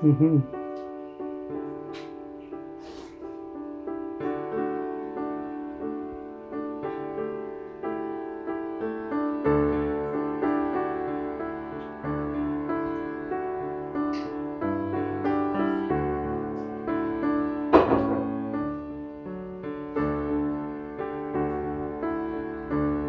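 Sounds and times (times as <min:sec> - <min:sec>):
piano-like keyboard music: 0:00.0 - 0:23.0.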